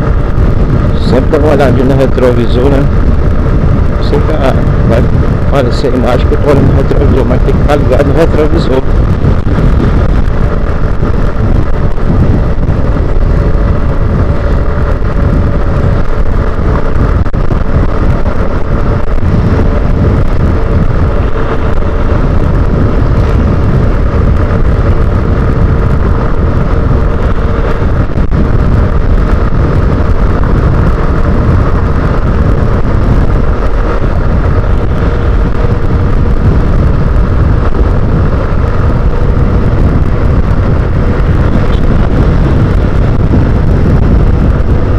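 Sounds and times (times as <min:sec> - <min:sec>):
motorcycle engine drone: 0:00.0 - 0:44.9
wind rush on microphone: 0:00.0 - 0:44.9.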